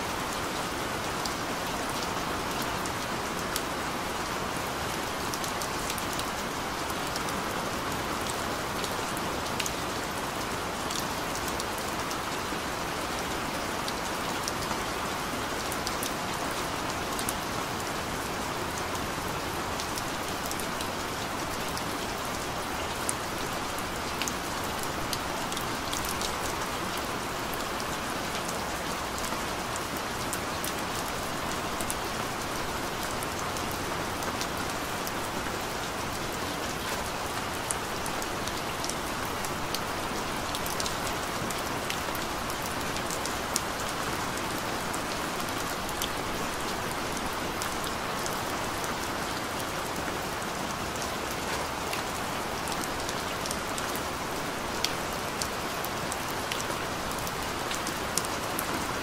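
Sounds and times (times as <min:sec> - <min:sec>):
gentle rain falling: 0:00.0 - 0:59.0.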